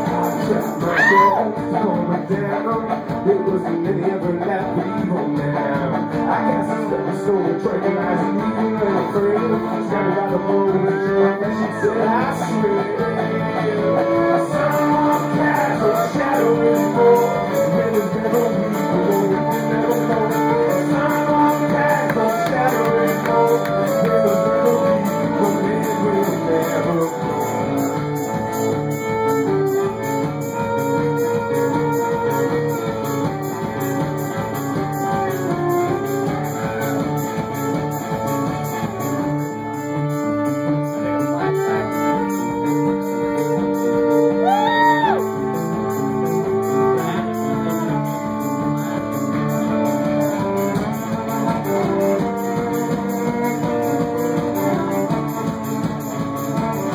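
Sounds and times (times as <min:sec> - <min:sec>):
folk band playing strings: 0:00.0 - 0:56.9
steady beat: 0:00.0 - 0:56.9
violin: 0:00.0 - 0:56.9.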